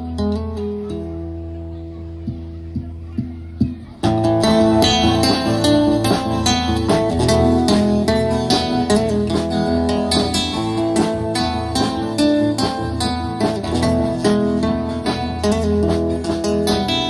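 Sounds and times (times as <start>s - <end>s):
acoustic guitars strumming: 0.0s - 17.0s
bass line: 0.0s - 17.0s
drum kit beat: 2.1s - 17.0s.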